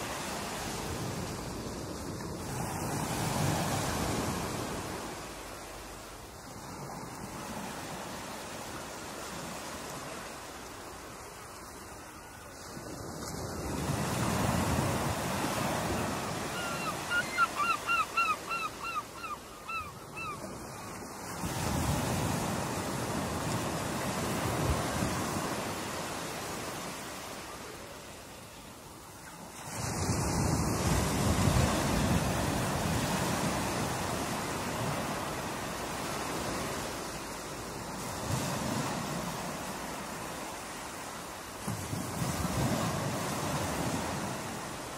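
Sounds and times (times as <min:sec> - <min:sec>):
wind: 0:00.0 - 0:44.9.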